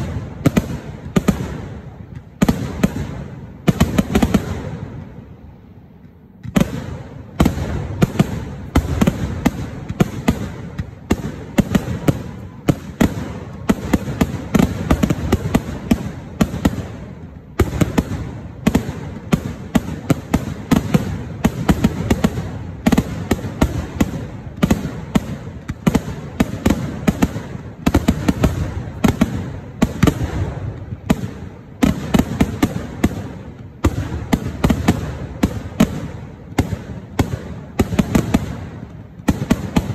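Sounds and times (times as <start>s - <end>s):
fireworks barrage of bangs: 0.0s - 39.9s.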